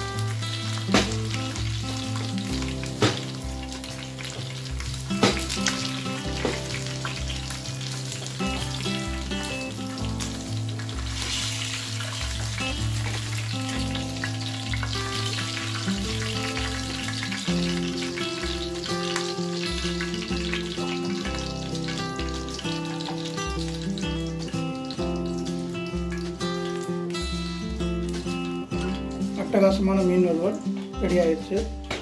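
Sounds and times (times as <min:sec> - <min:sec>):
hot oil sizzling: 0:00.0 - 0:32.0
music with bass beat: 0:00.0 - 0:32.0.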